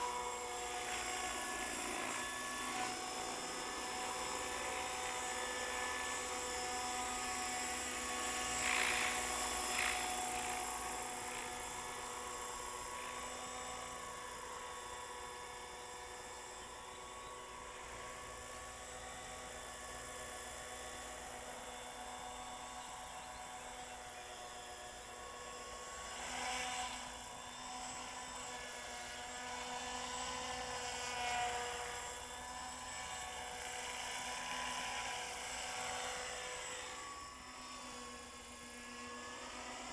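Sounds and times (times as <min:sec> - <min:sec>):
model helicopter whine: 0:00.0 - 0:39.9.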